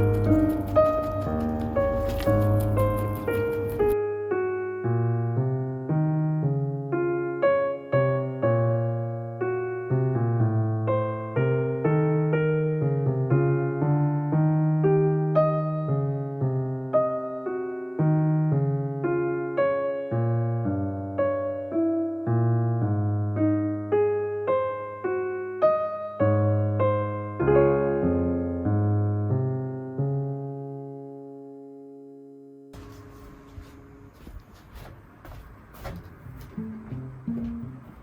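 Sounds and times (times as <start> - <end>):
electric piano music: 0.0 - 33.2.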